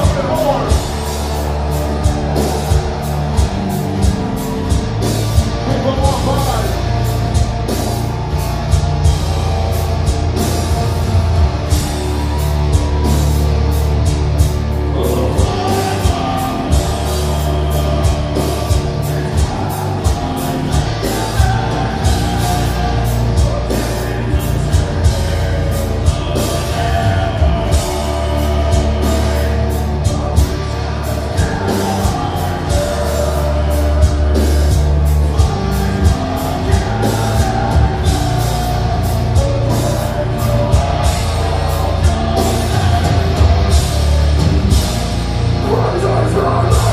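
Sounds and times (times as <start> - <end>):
distorted guitars and bass: 0.0 - 46.9
fast dense drumming: 0.0 - 46.9
heavy metal vocals: 0.0 - 46.9.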